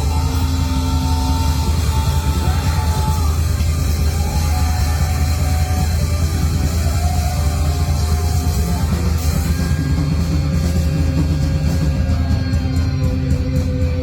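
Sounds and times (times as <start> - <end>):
electric guitar: 0.0 - 14.0
live rock band playing: 0.0 - 14.0.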